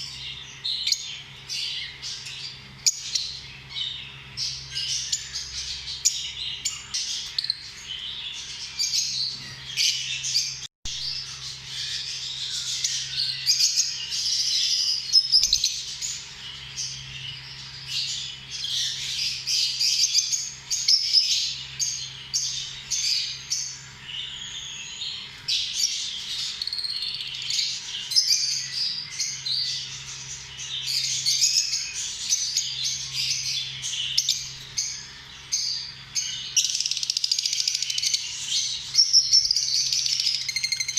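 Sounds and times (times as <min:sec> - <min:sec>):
lovebirds chirping: 0:00.0 - 0:40.9.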